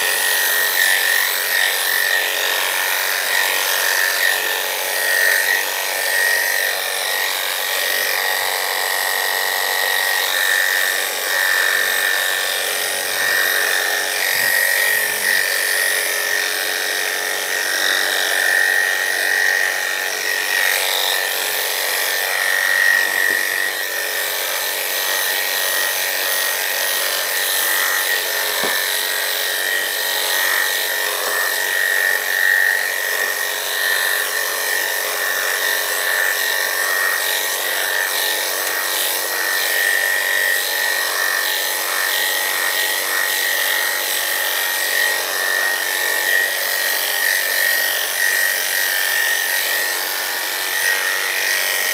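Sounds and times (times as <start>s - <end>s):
electric dog clippers whining: 0.0s - 51.9s.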